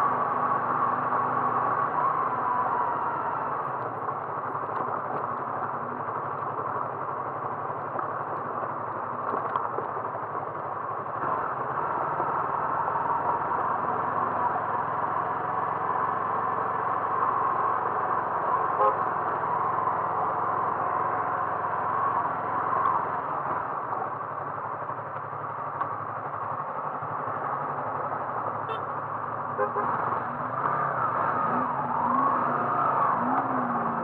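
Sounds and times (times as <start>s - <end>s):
road noise: 0.0s - 34.0s
vehicle engine running: 0.0s - 34.0s.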